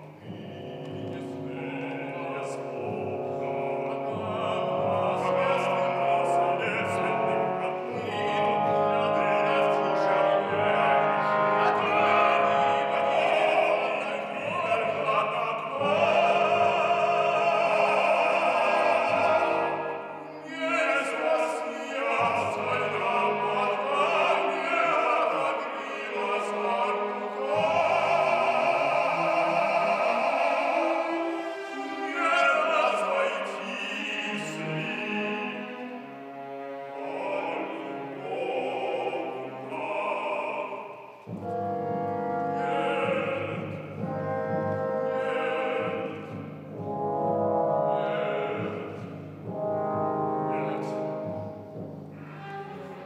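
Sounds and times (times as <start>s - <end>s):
operatic baritone singing: 0.0s - 53.0s
symphony orchestra strings: 0.0s - 53.0s.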